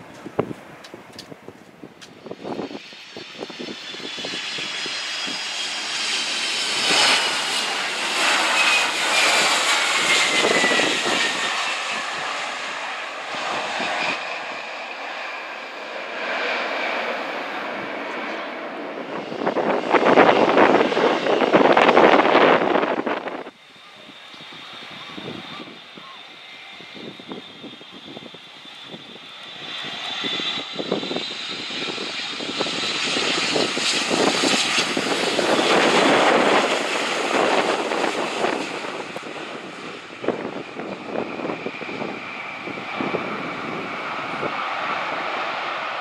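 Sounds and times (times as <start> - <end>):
jet engines of landing airliner: 0.0 - 46.0.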